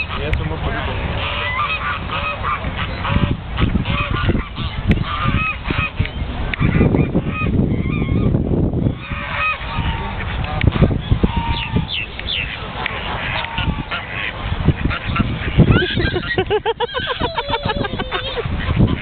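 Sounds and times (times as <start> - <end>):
birds honking: 0.0 - 19.0.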